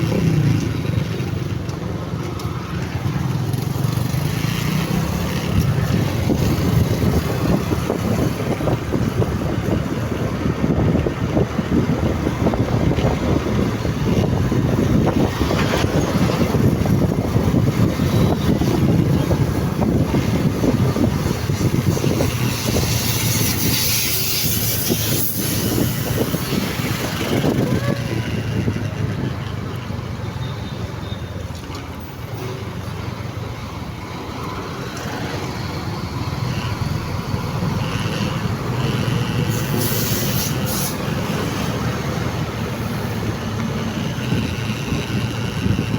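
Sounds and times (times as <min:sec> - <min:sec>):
wind rushing over microphone: 0:00.0 - 0:30.2, 0:32.6 - 0:45.9
motorcycle engine and road noise: 0:00.0 - 0:45.9.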